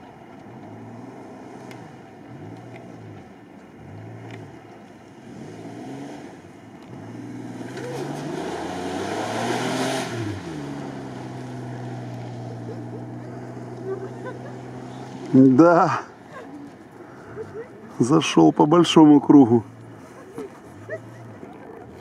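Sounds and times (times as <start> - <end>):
engine revving in surges: 0.0 - 22.0.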